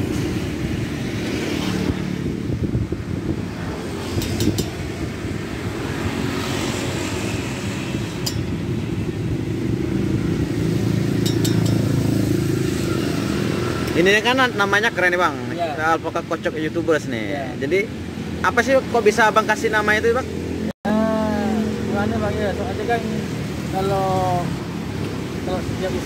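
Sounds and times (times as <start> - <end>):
low rumble of vehicle engines: 0.0 - 26.0.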